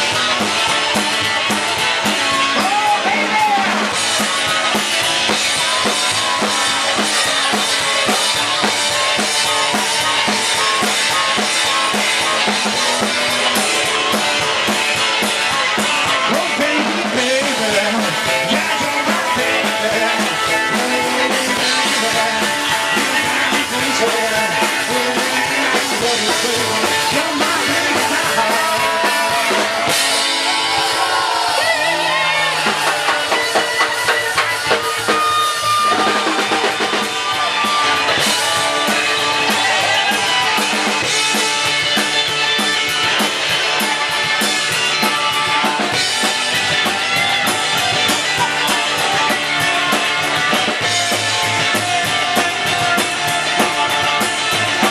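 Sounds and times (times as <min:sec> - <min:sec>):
drum kit beat: 0:00.0 - 0:54.9
rock band playing live: 0:00.0 - 0:54.9.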